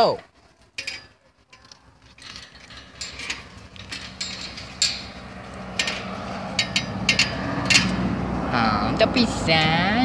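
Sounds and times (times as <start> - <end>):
chain-link fence rattling: 0.7 - 8.8.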